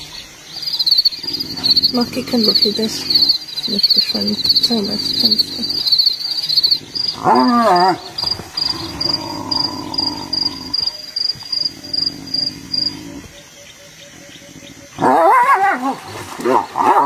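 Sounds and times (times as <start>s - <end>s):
crickets trilling: 0.0s - 17.0s
hyena calling: 0.6s - 17.0s.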